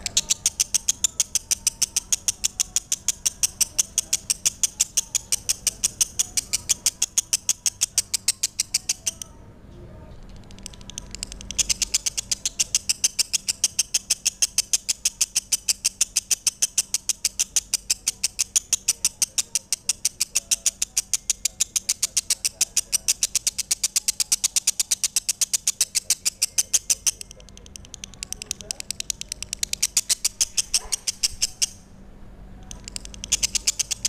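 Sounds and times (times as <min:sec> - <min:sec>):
lovebird chirping: 0:00.0 - 0:09.3, 0:10.5 - 0:31.9, 0:32.6 - 0:34.0.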